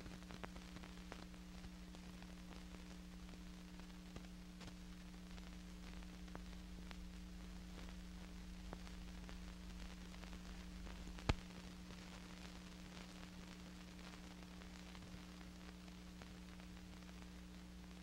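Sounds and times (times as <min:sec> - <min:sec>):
faint low hum with hiss: 0:00.0 - 0:18.0.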